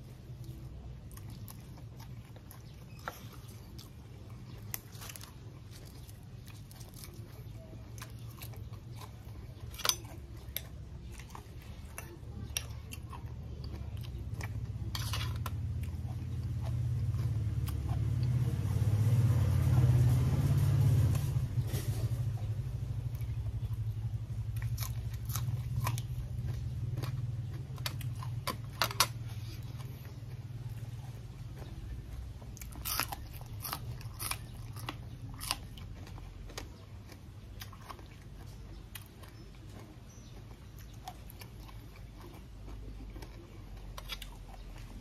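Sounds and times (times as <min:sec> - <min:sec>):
chewing crisp leaves: 0:00.0 - 0:45.0.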